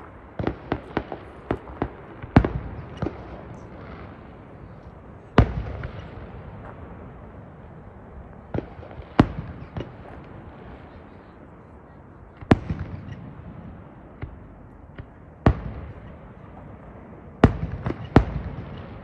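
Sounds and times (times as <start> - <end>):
fireworks bangs with echo: 0.0 - 19.0.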